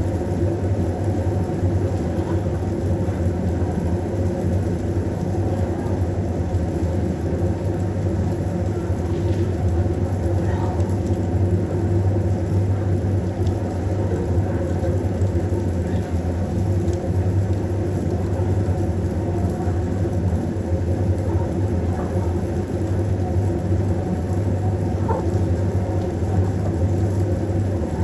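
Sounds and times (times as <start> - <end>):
steady low rumble with hum: 0.0 - 28.0.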